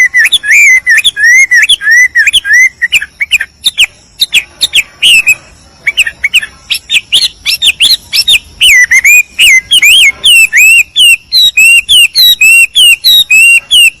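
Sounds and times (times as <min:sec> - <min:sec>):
songbird whistling: 0:00.0 - 0:14.0.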